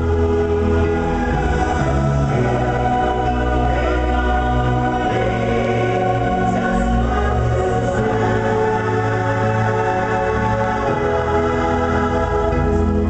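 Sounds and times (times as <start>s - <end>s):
musical accompaniment: 0.0s - 13.0s.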